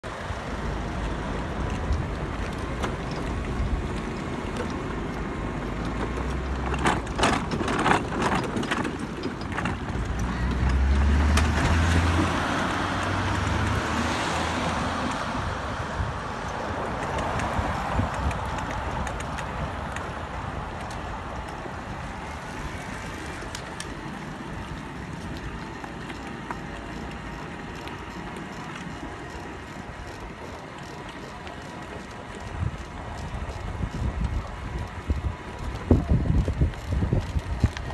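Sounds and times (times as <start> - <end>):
go-karts rolling on asphalt: 0.0 - 37.9
street traffic noise: 0.0 - 37.9.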